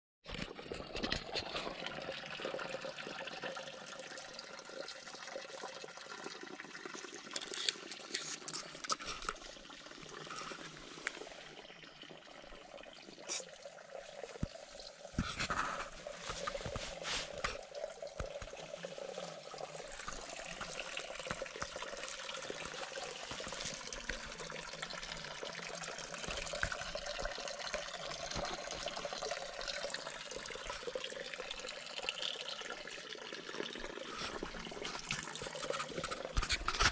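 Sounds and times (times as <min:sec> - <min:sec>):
water trickling into pond: 0:00.3 - 0:36.9.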